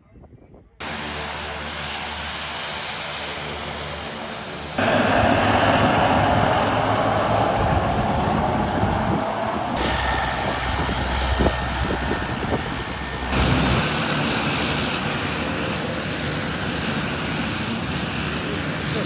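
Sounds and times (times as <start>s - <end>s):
propeller aircraft engines roaring: 0.8s - 19.0s.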